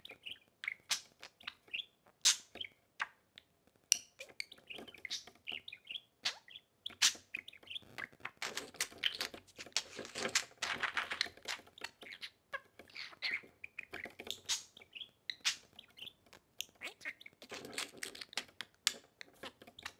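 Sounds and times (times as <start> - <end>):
budgerigars chirping: 0.0 - 3.1, 4.1 - 10.1, 10.9 - 19.9.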